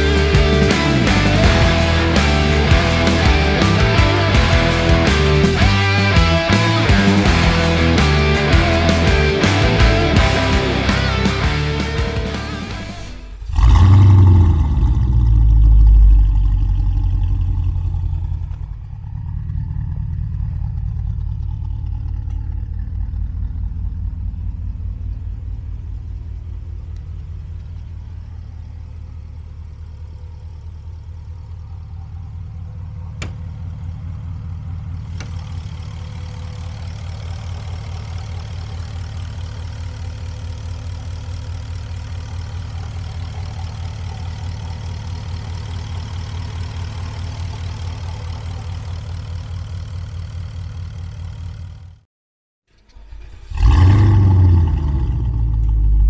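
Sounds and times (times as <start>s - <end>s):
car engine idling: 0.0s - 52.1s, 52.7s - 56.0s.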